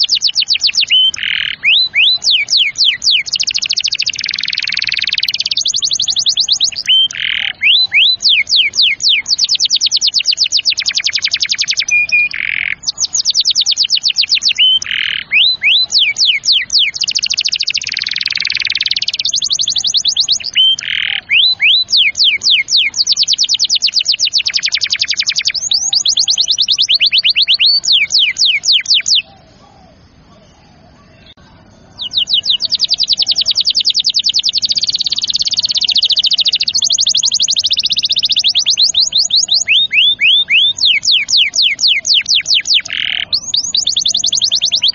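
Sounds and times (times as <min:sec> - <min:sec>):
canary singing rapid trills: 0:00.0 - 0:44.9.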